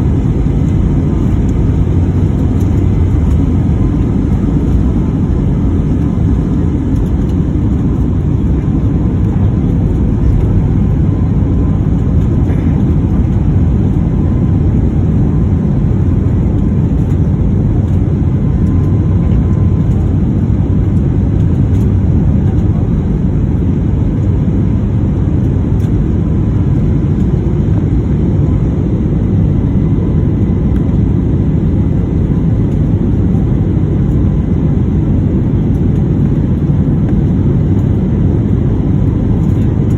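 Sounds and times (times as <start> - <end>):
airplane engine rumble: 0.0 - 39.9.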